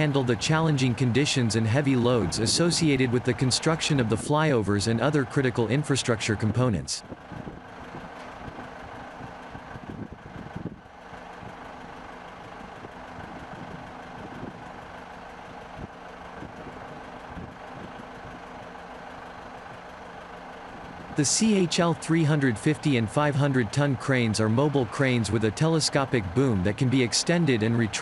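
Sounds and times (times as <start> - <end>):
heavy machinery engine idling: 0.0 - 28.0.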